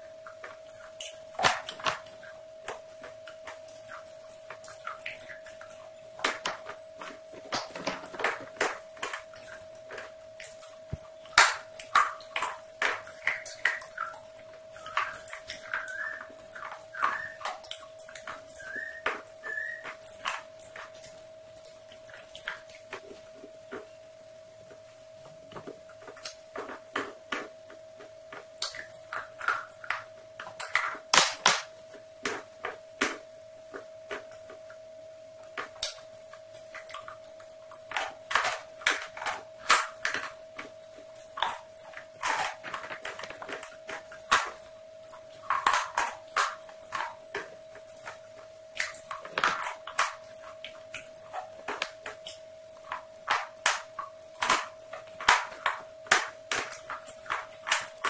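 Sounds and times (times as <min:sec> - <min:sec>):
thin steady whine: 0:00.0 - 0:58.0.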